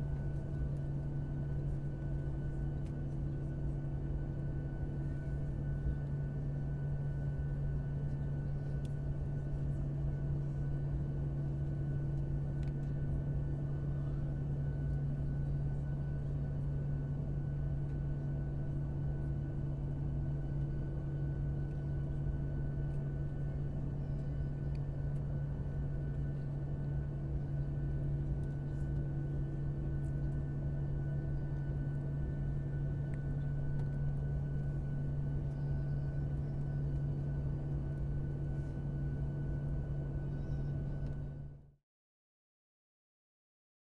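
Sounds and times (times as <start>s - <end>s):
airliner cabin engine drone: 0.0s - 41.8s.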